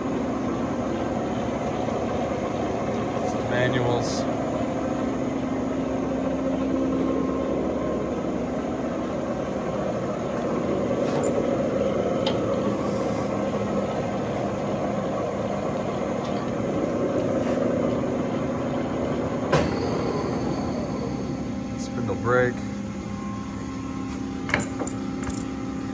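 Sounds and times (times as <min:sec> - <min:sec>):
lathe running: 0:00.0 - 0:25.9.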